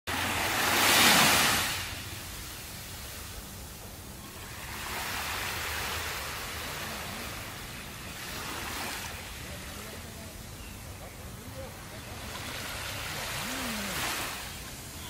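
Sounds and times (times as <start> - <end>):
small waves washing on beach: 0.1 - 15.0.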